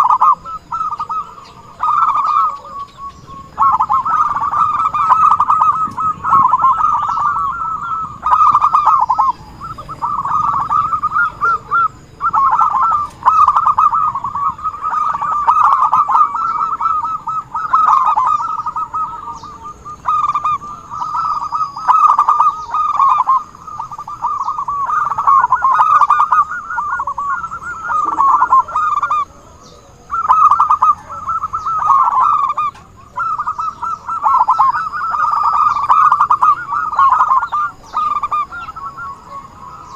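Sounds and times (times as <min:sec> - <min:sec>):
doves cooing trills: 0:00.0 - 0:39.9.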